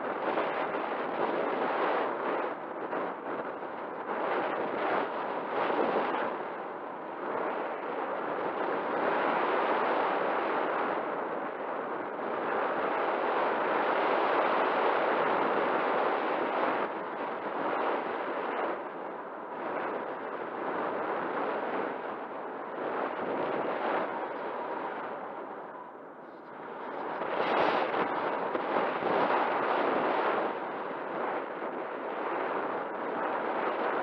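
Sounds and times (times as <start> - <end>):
wind rushing past camera: 0.0 - 34.0.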